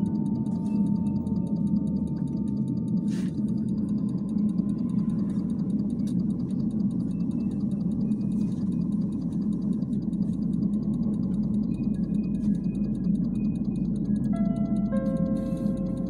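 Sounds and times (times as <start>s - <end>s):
faint high whine: 0.0s - 16.0s
trolleybus hum and rumble: 0.0s - 16.0s.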